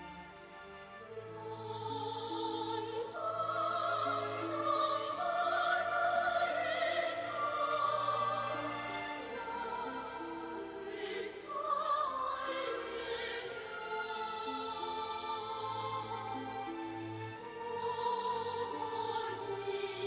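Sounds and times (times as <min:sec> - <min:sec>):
slow operatic orchestral music: 0:00.0 - 0:20.0.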